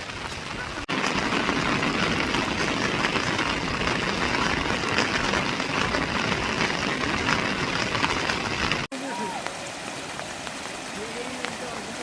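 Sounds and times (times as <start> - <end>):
dense water noise: 0.0 - 12.0.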